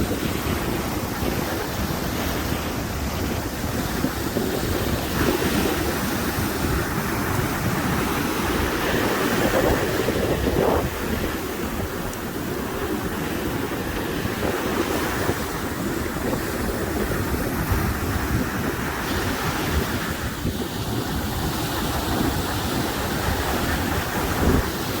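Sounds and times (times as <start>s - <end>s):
sea waves washing in: 0.0s - 25.0s
wind buffeting microphone: 0.0s - 25.0s.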